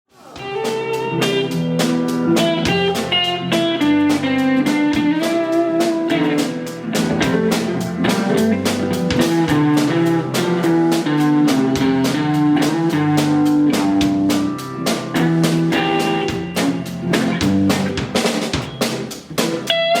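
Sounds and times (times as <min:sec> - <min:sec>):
drum kit beat: 0:00.1 - 0:20.0
guitar melody: 0:00.4 - 0:20.0.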